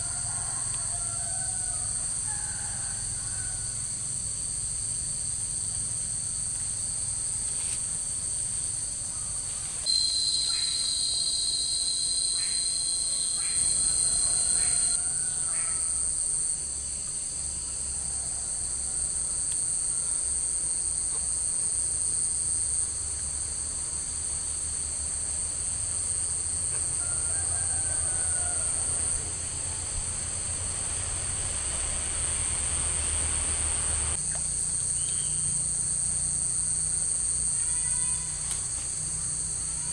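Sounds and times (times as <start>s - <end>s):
lower-pitched insect tone: 0.0s - 39.9s
shrill insect chorus: 0.0s - 39.9s.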